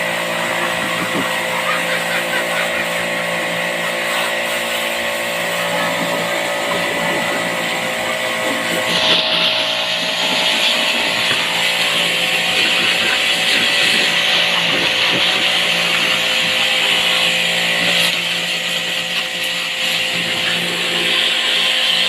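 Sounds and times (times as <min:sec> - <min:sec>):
power tool hissing grind: 0:00.0 - 0:22.0.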